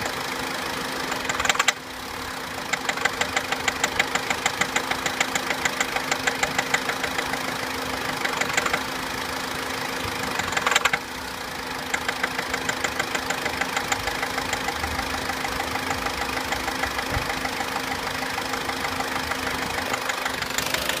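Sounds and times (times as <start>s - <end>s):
car engine idling: 0.0s - 21.0s
engine tapping rattle: 0.0s - 21.0s.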